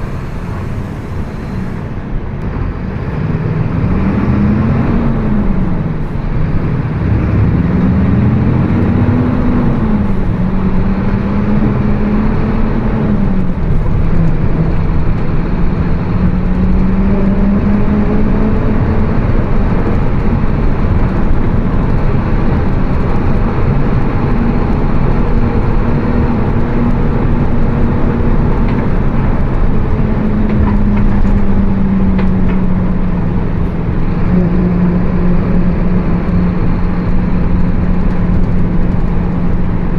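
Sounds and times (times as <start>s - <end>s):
bus differential droning: 0.0s - 39.9s
road and engine noise: 0.0s - 39.9s.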